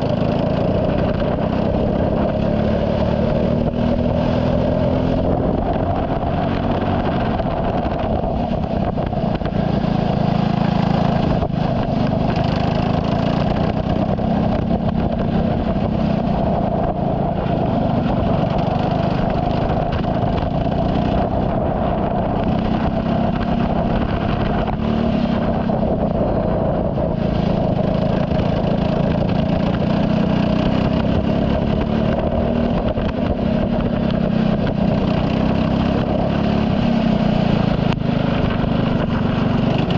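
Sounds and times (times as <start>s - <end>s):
race car engine at speed: 0.0s - 39.9s
road noise: 0.0s - 39.9s.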